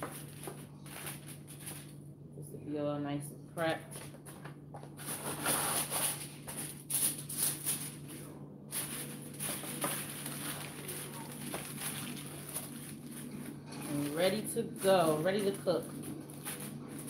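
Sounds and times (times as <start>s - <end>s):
aluminium foil rustling and crinkling: 0.0s - 2.0s, 3.8s - 17.0s.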